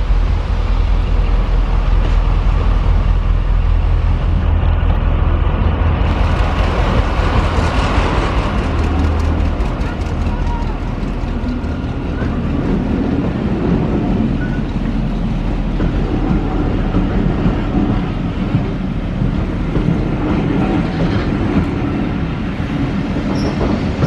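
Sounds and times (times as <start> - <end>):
train running: 0.0 - 24.0.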